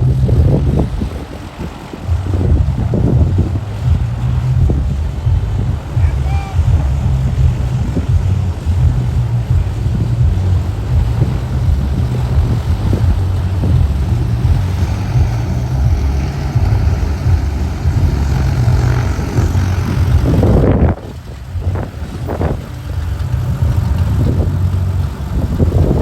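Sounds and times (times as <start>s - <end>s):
propeller airplane engine rumbling: 0.0s - 26.0s.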